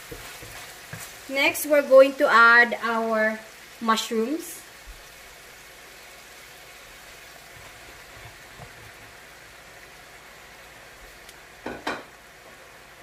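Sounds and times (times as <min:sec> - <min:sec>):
oil sizzling in a wok: 0:00.0 - 0:13.0.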